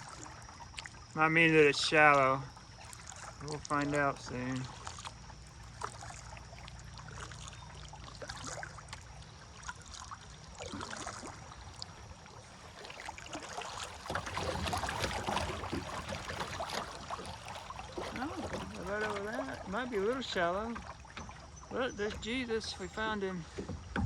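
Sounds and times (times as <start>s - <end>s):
river water splashing around kayak: 0.0s - 24.0s.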